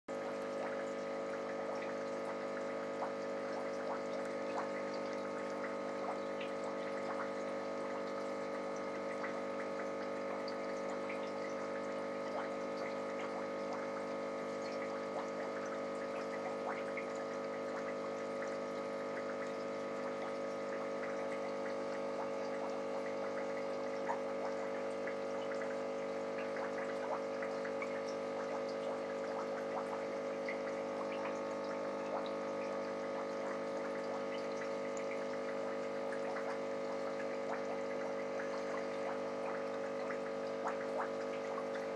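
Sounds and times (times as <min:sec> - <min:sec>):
aquarium pump humming: 0:00.1 - 0:41.9
water trickling: 0:00.1 - 0:41.9.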